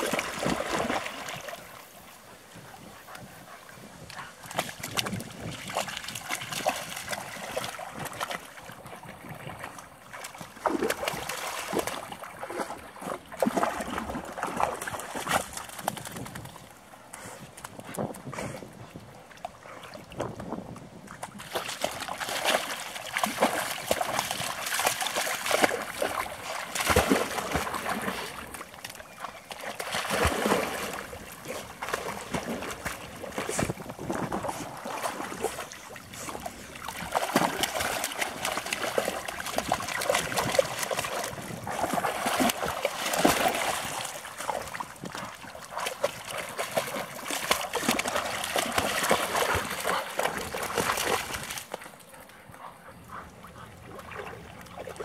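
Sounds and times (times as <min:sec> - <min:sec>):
dogs splashing in water: 0:00.0 - 0:02.0, 0:02.7 - 0:18.3, 0:21.0 - 0:55.0.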